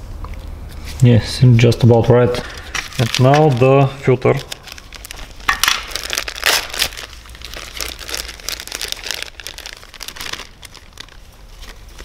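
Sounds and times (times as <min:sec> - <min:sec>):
plastic packaging crinkling: 0:02.3 - 0:12.0.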